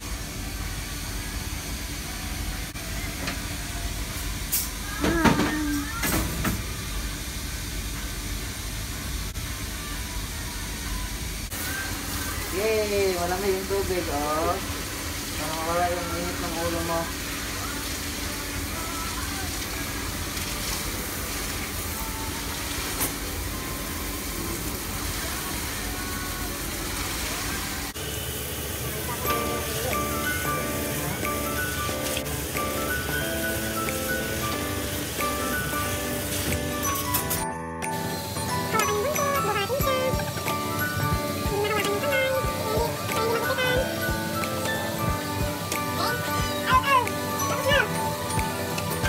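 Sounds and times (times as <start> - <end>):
shower sprayer hissing: 0.0 - 49.0.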